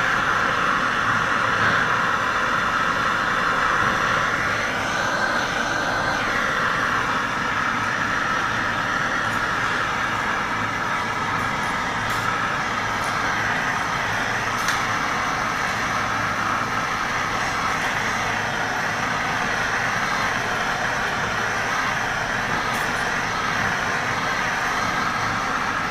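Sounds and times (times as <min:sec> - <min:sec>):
gas torch hissing: 0:00.0 - 0:25.9.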